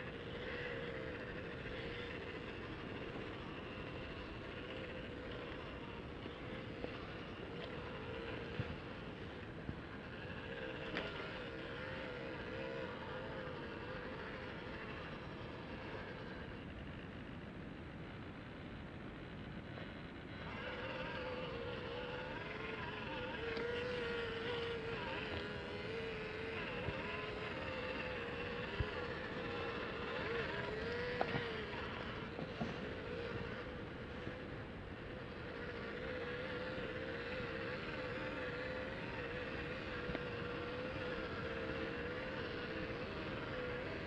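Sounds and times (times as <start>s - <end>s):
electric motor whining: 0.0s - 17.1s, 19.8s - 44.0s.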